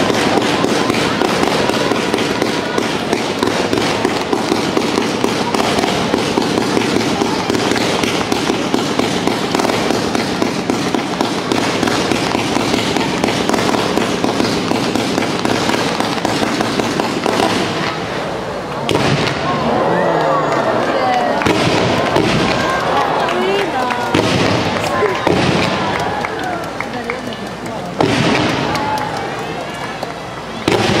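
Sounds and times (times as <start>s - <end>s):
fireworks crackling: 0.0s - 31.0s.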